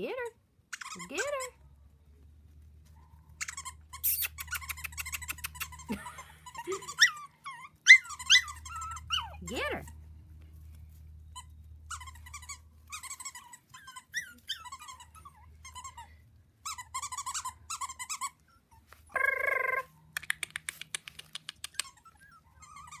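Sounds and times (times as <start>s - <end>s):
puppies yipping and squeaking: 0.6s - 1.6s, 2.4s - 23.0s
puppy yelping: 0.7s - 1.6s, 3.0s - 10.0s, 11.3s - 23.0s.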